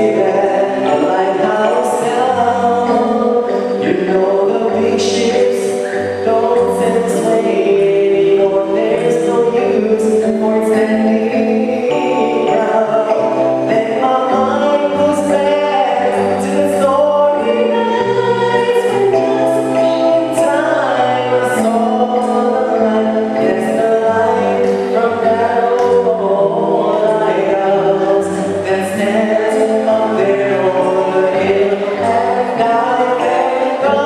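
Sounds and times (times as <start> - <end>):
choir singing a hymn: 0.0 - 10.4, 11.4 - 34.0.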